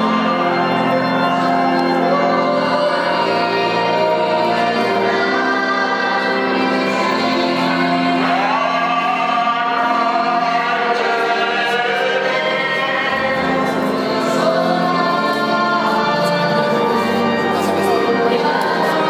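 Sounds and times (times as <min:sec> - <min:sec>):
group singing a slow hymn: 0:00.0 - 0:19.0.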